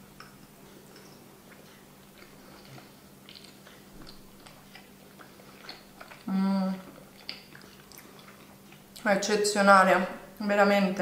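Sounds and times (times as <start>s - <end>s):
person chewing pastry: 0.0s - 9.1s
wet mouth clicks: 0.2s - 9.0s.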